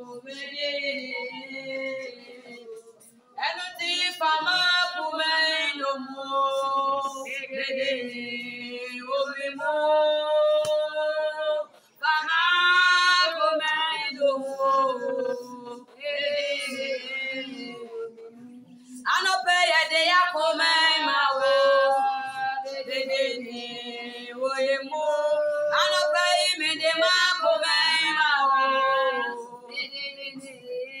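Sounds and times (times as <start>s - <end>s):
voices singing worship song: 0.0s - 31.0s.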